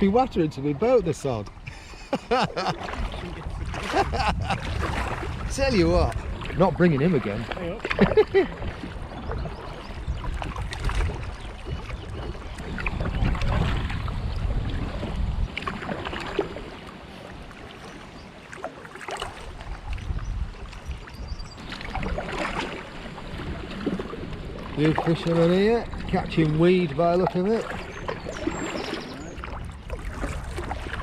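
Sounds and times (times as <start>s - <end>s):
wind buffeting microphone: 0.0s - 18.4s, 19.2s - 31.0s
paddle splashing in water: 0.0s - 31.0s.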